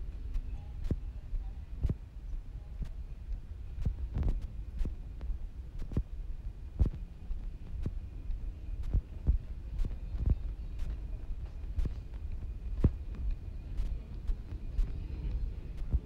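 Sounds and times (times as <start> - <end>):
faint steady tone: 0.0 - 16.0
steady low rumble: 0.0 - 16.0.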